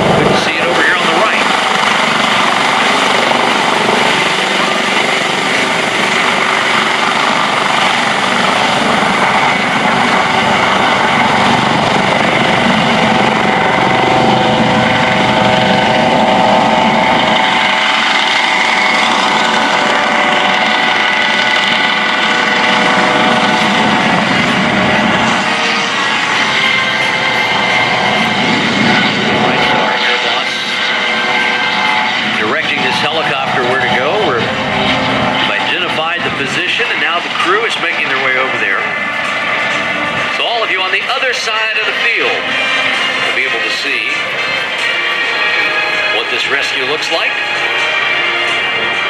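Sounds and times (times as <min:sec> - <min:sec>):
helicopter turbine and rotor: 0:00.0 - 0:49.0.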